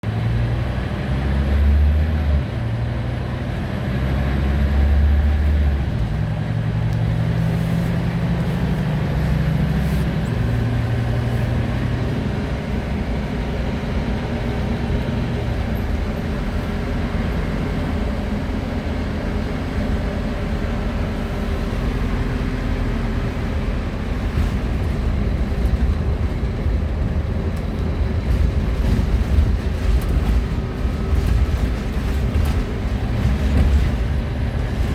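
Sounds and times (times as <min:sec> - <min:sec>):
bus diesel engine: 0:00.0 - 0:34.9
road and tyre rumble: 0:00.0 - 0:34.9.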